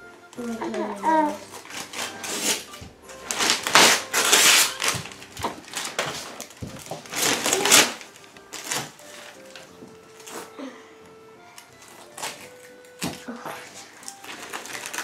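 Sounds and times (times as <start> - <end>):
wrapping paper ripping: 0.3 - 10.5, 11.5 - 15.0.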